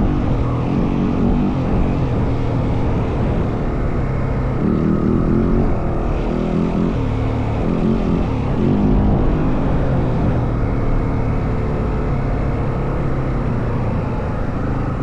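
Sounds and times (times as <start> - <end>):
dirt bike engine revving: 0.0 - 14.2
wind on microphone: 0.0 - 15.0.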